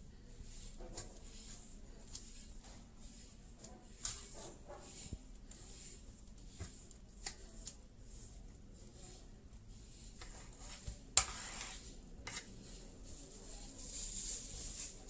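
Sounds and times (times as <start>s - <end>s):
hand mixing flour in metal bowl: 0.0s - 15.0s.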